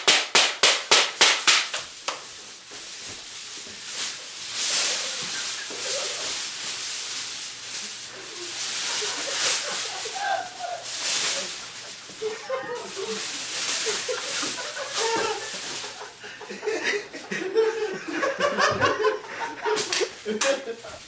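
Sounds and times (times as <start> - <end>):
aluminium foil crinkling: 0.5 - 16.8, 19.6 - 21.0.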